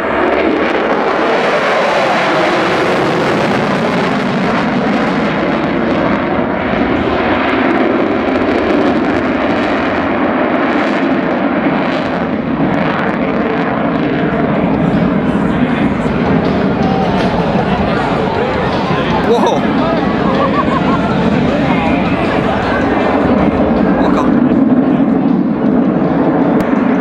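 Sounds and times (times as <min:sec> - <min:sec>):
loud jet engine roar: 0:00.0 - 0:27.0.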